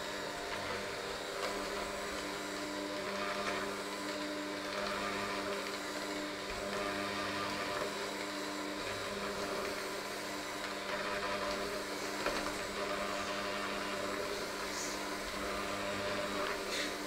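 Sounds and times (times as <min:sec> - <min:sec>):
electric hand mixer running: 0:00.0 - 0:17.0.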